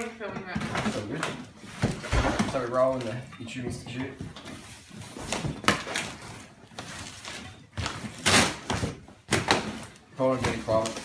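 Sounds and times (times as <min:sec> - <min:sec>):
cardboard and plastic rustling: 0:00.0 - 0:11.0.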